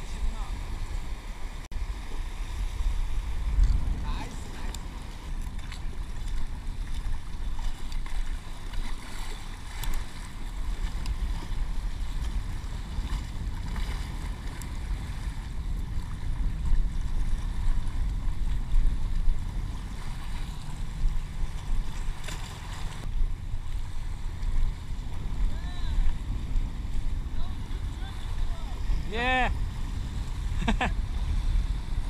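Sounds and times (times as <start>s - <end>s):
surf splashing against rocks: 0.0s - 32.0s
wind buffeting microphone: 0.0s - 32.0s.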